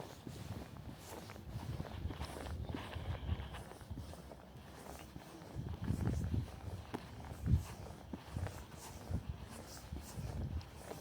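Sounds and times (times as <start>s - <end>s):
footsteps on street: 0.0s - 11.0s.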